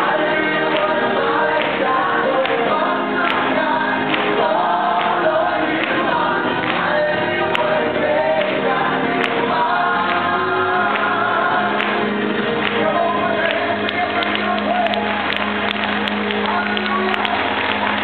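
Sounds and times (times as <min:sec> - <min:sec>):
choir singing worship song: 0:00.0 - 0:18.0.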